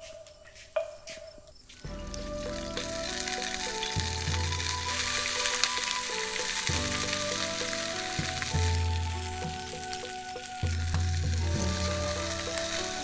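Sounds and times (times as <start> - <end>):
background music: 0.0 - 13.0
food sizzling in a pan: 1.8 - 13.0.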